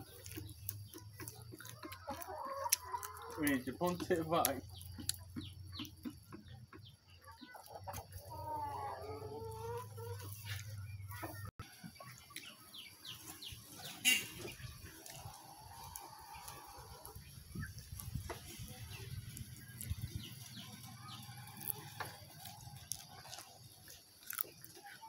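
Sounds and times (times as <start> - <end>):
chickens clucking faintly: 0.0 - 25.0.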